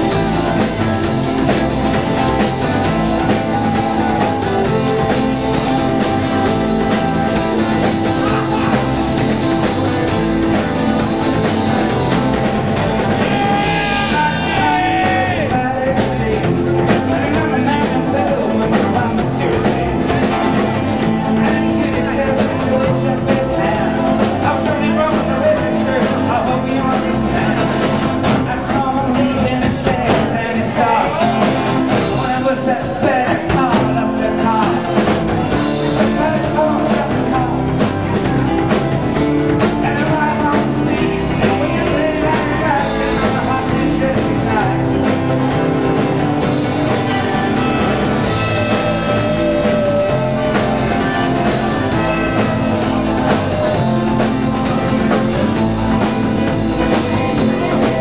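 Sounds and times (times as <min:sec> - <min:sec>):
live rock band with singing: 0:00.0 - 0:58.0.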